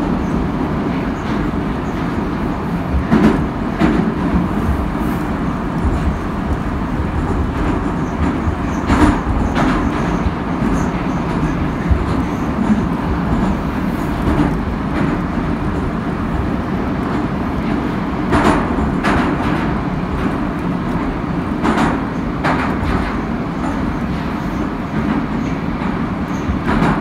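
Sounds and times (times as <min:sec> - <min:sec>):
train wheels rumbling and rattling: 0:00.0 - 0:27.0.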